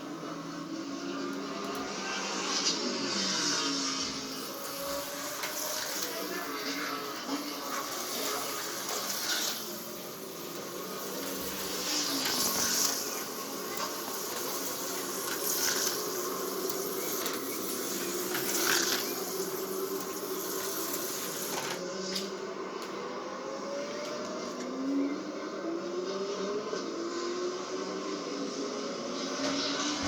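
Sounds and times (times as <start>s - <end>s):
slot car motors whining: 0.0s - 30.0s.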